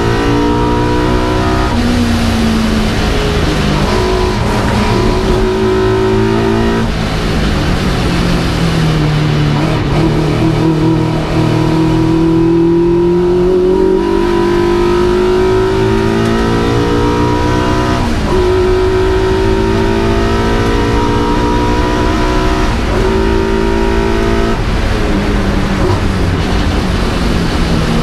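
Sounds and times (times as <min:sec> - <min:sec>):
race car engine pulling: 0:00.0 - 0:28.0.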